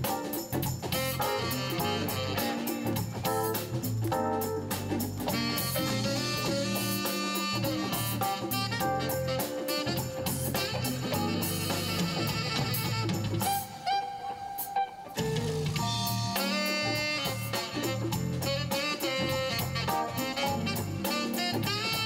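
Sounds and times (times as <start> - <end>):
electric bass: 0.0 - 13.5, 15.4 - 22.0
drum kit: 0.0 - 22.0
saxophone melody: 0.8 - 3.7, 5.2 - 22.0.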